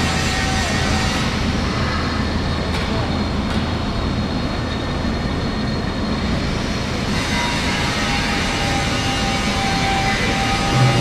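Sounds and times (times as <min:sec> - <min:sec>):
mechanical rumble and hum: 0:00.0 - 0:11.0.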